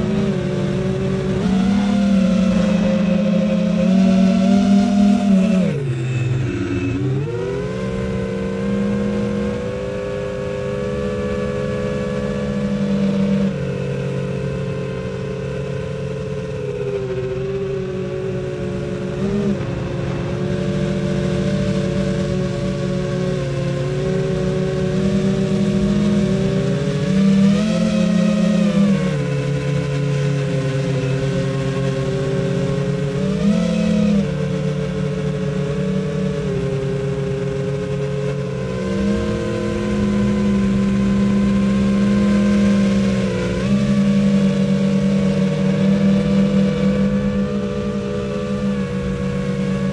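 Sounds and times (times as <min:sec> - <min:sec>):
quadcopter propellers buzzing: 0:00.0 - 0:49.9.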